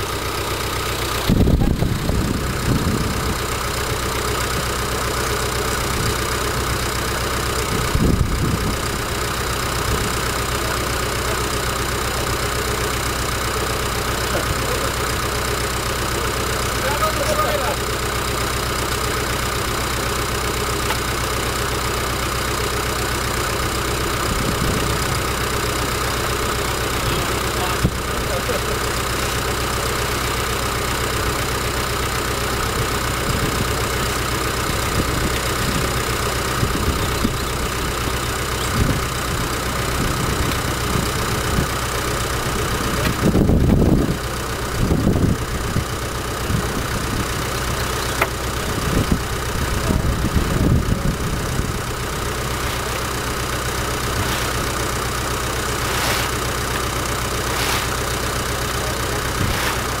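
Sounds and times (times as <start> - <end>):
low rumbles: 0.0 - 60.0.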